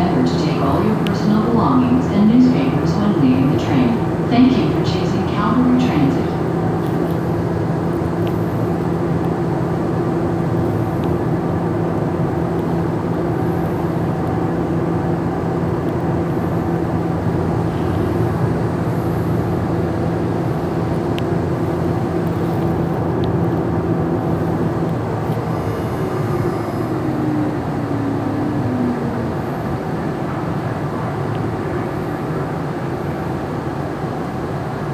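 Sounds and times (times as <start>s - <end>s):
low even hum: 0.0s - 31.5s
light rail car running rumble: 0.0s - 34.9s.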